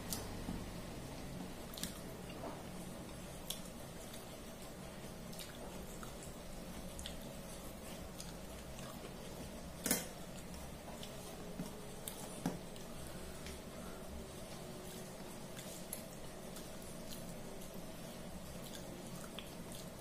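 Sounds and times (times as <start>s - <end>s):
wet squishes of mixing food: 0.0s - 20.0s.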